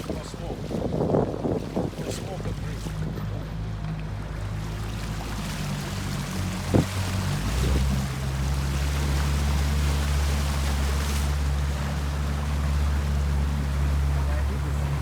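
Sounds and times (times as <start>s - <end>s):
motorboat engine running: 0.0s - 15.0s
water washing along hull: 0.0s - 15.0s.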